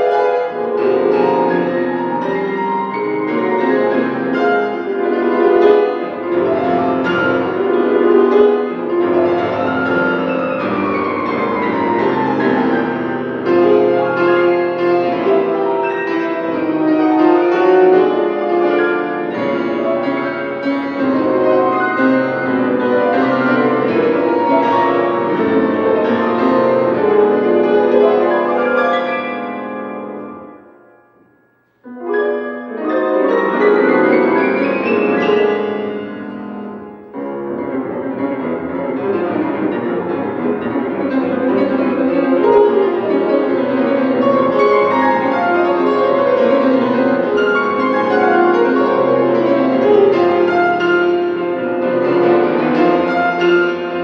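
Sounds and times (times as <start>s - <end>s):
solo grand piano playing: 0.0s - 54.0s.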